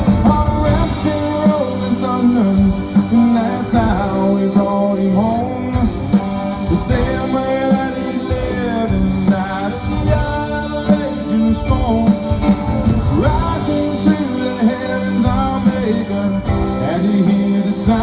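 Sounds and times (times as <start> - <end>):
country-rock band playing: 0.0 - 18.0
person singing: 0.0 - 18.0.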